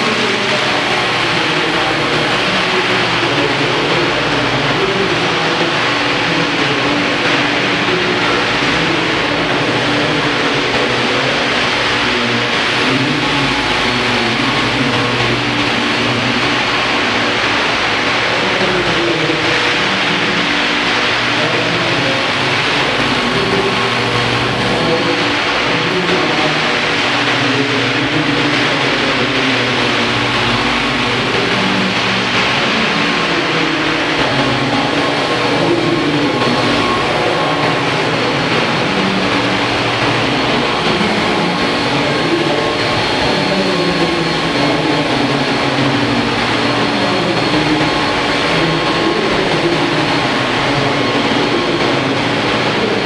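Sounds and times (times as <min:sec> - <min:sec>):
model helicopter flying: 0:00.0 - 0:53.0.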